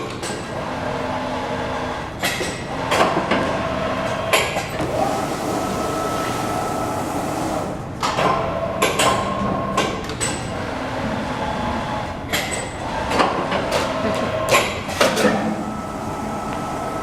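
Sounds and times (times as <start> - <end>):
machine drive humming: 0.5 - 9.8, 10.5 - 17.0.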